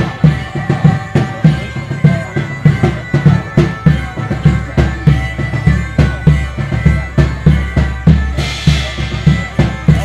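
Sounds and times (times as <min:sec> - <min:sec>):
bagpipes holding notes: 0:00.0 - 0:10.0
driving drum beat: 0:00.0 - 0:10.0.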